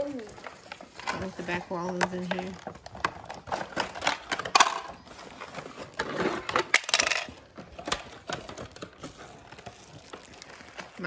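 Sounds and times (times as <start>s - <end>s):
packaging rustling: 0.0s - 11.0s
plastic packaging clicking: 1.8s - 11.0s.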